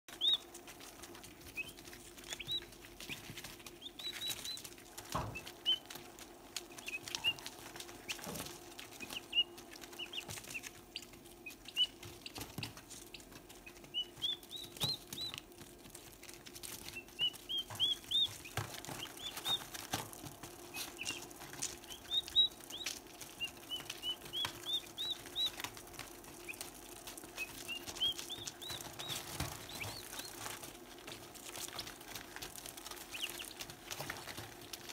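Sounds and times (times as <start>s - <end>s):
beaks pecking on newspaper: 0.1s - 34.9s
turkey poults peeping: 0.1s - 34.9s.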